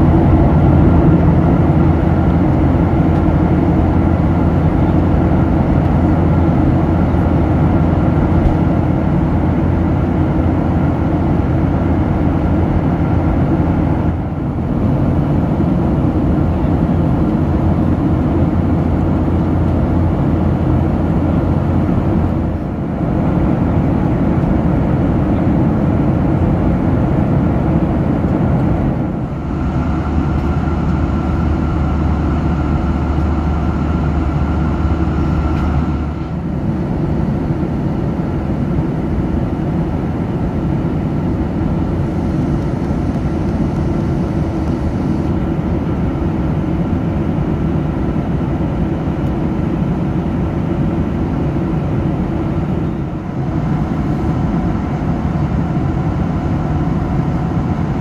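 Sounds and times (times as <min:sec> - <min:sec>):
airplane cabin roar: 0:00.0 - 0:58.0.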